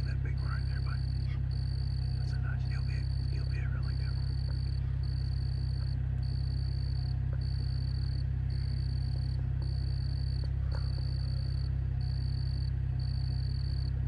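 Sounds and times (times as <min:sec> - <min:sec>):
pulsing high-pitched tone: 0:00.0 - 0:14.0
vehicle engine rumbling: 0:00.0 - 0:14.0.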